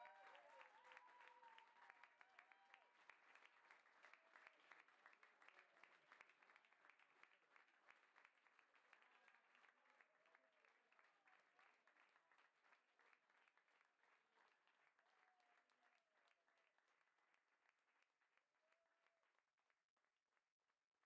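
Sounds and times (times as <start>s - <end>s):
crowd clapping: 0.0s - 19.5s.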